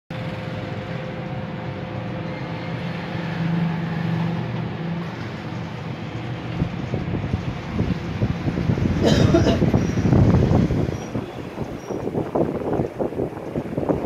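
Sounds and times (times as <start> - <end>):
faint constant whine: 0.1 - 14.0
low mechanical hum: 0.1 - 14.0.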